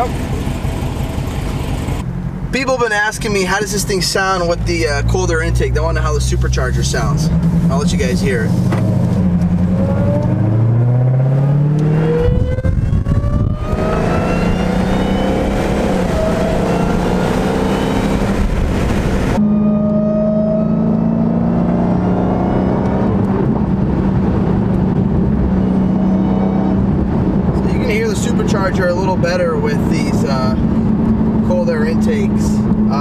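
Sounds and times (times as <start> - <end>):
car engine accelerating: 0.0 - 33.0
supercharger whine: 5.6 - 33.0.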